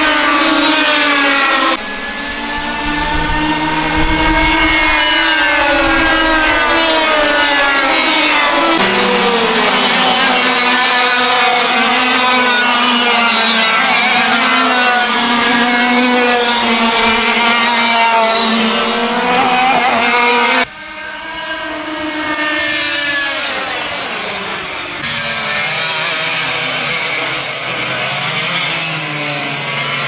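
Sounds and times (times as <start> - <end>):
single kart engine approaching: 0.0 - 25.0
kart engines at high revs: 0.0 - 30.0.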